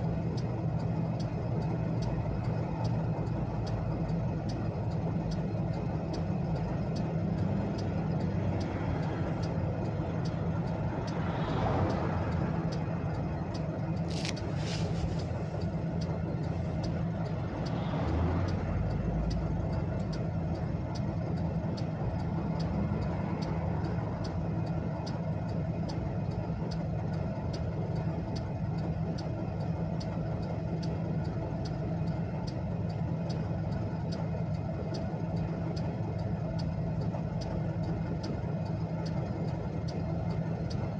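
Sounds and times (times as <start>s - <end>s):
car engine idling: 0.0s - 40.9s
hazard flasher ticking: 0.2s - 40.9s.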